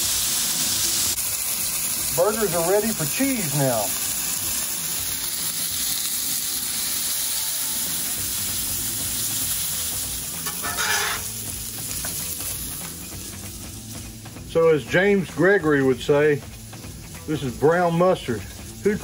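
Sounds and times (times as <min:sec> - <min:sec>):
food sizzling on griddle: 0:00.0 - 0:19.0.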